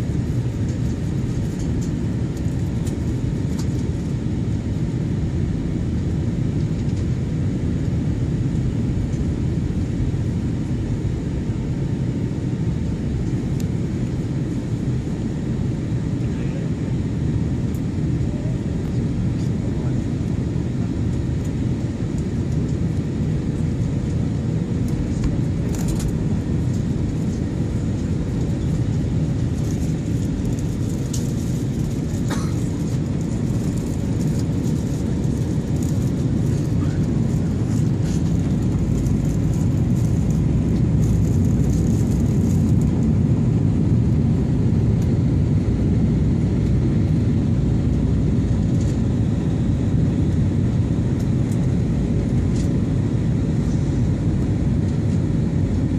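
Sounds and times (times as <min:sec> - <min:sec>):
faint constant hum: 0:00.0 - 0:55.9
jet engine cabin rumble: 0:00.0 - 0:55.9.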